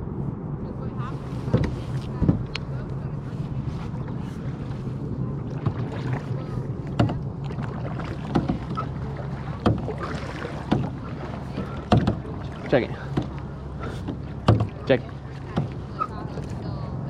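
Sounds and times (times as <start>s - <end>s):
steady low hum: 0.0s - 17.0s
kayak paddle splashes: 1.0s - 17.0s.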